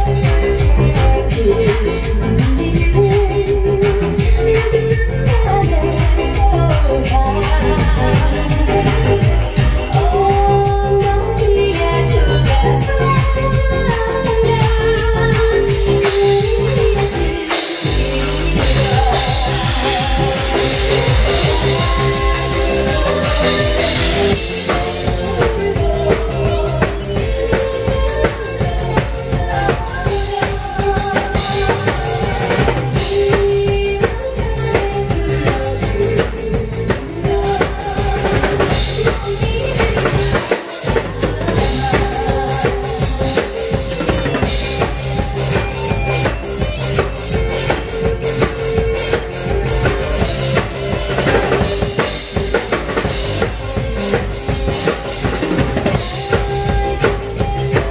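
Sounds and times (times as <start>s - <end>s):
drum kit beat: 0.0s - 57.9s
upbeat instrumental music: 0.0s - 57.9s.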